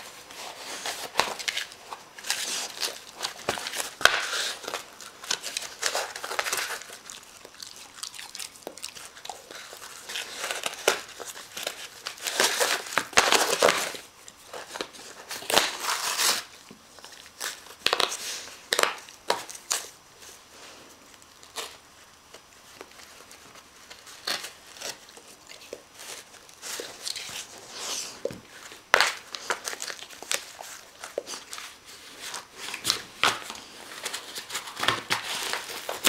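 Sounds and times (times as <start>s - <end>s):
dog tearing cardboard and paper: 0.0s - 20.3s, 21.3s - 36.0s.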